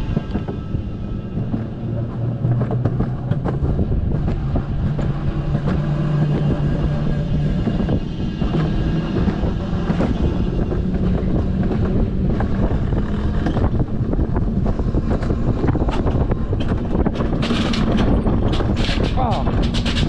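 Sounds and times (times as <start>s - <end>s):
coaster sled wheels rumbling on track: 0.0s - 20.0s
wind buffeting microphone: 0.0s - 20.0s.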